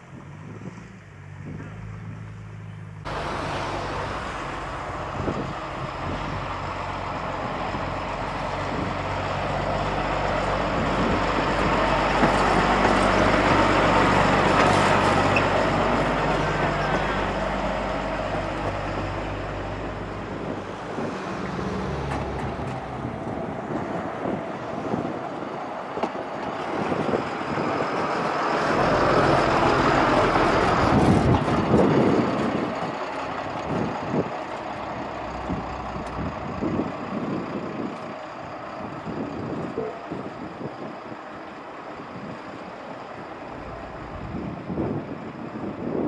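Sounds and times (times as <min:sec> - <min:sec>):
diesel locomotive engine hum: 0:00.0 - 0:46.0
rushing noise: 0:03.0 - 0:41.4.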